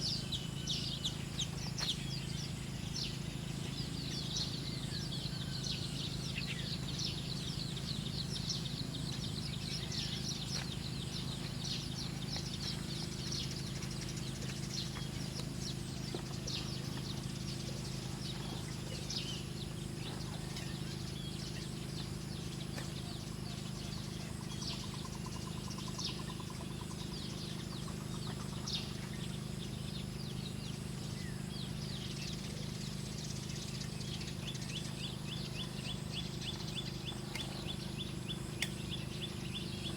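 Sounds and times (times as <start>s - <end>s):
birds chirping: 0.0s - 39.9s
low hum: 0.0s - 39.9s.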